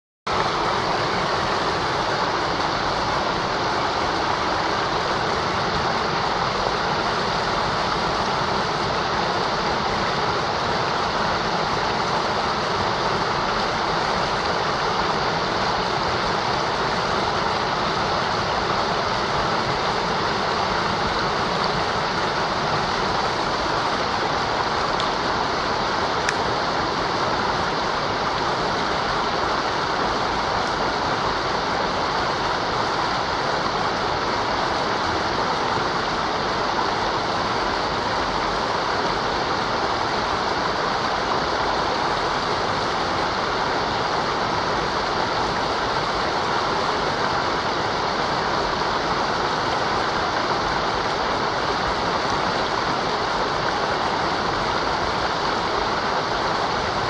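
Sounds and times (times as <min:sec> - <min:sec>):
river rushing over rocks: 0:00.3 - 0:57.0.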